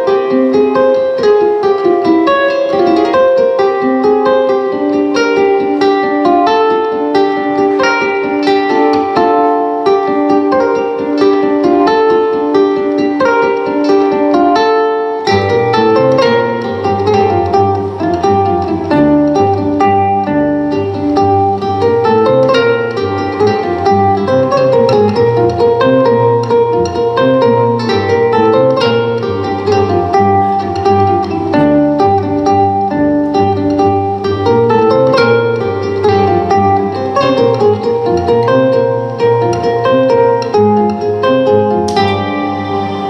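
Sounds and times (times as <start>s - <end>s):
plucked string instrument: 0.0s - 43.0s.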